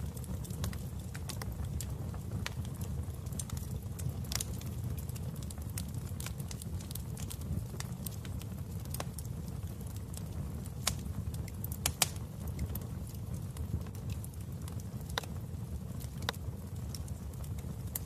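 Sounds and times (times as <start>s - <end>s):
fire crackles and pops: 0.0s - 18.0s
loud fire snaps: 0.0s - 18.0s
low fire rumble: 0.0s - 18.0s.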